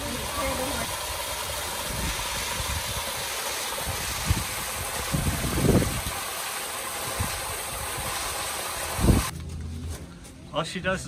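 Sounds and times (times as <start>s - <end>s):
waterfall rushing and splashing: 0.0s - 9.3s.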